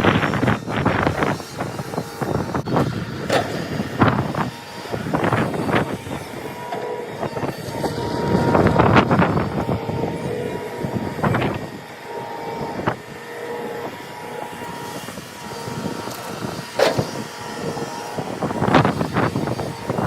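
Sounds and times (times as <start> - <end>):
heavy construction machinery running: 0.0 - 20.0.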